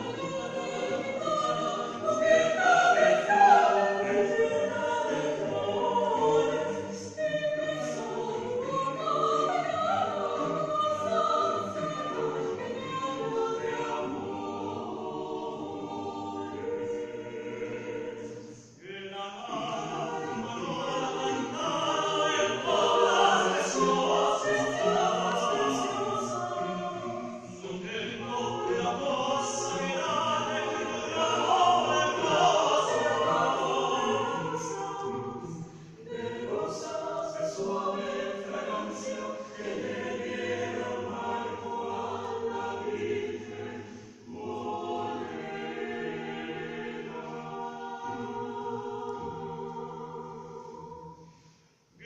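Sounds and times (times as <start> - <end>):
choir singing a cappella: 0.0 - 52.0.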